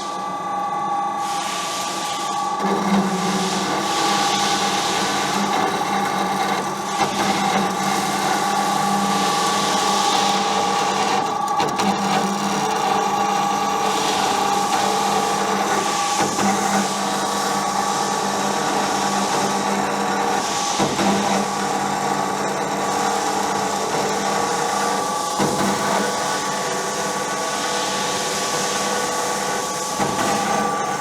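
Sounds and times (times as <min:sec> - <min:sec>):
band saw cutting metal: 0:01.4 - 0:31.0.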